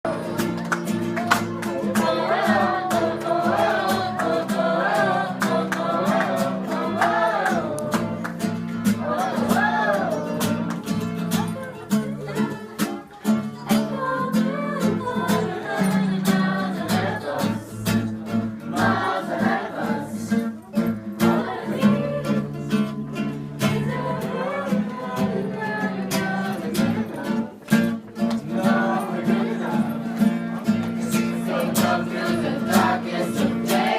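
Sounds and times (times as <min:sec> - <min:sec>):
group singing: 0:00.1 - 0:10.7, 0:11.6 - 0:33.9
strummed acoustic guitar: 0:00.1 - 0:33.9.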